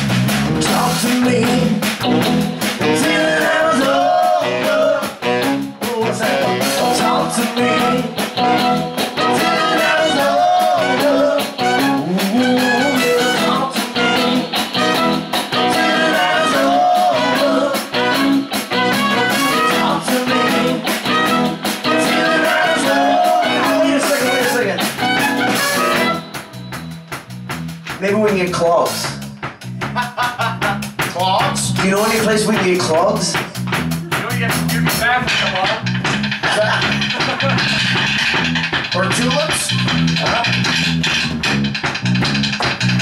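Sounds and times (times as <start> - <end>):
rock band playing: 0.0 - 43.0.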